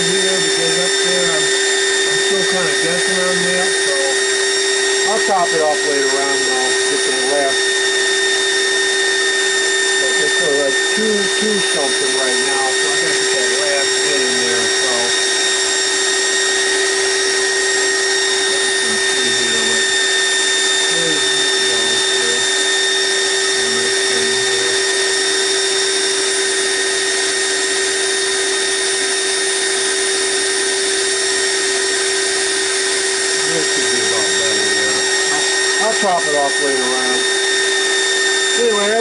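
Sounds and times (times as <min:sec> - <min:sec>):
air compressor whine: 0:00.0 - 0:39.0.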